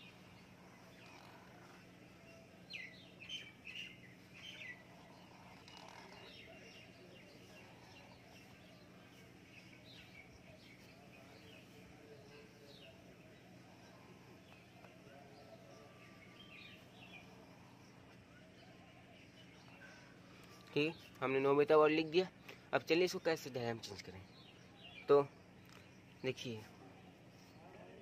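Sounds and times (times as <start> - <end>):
faint bird chirps: 0.0 - 28.0
low steady hum: 0.0 - 28.0.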